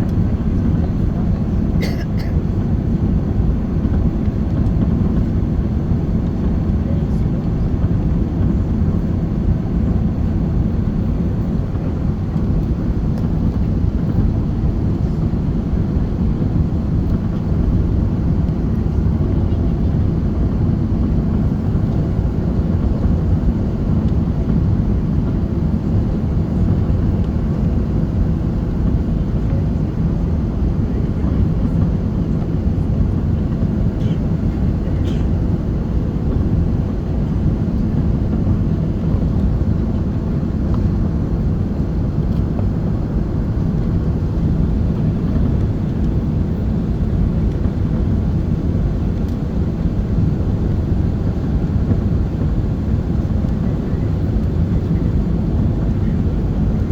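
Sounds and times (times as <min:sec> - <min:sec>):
airliner engines rumbling: 0:00.0 - 0:56.9.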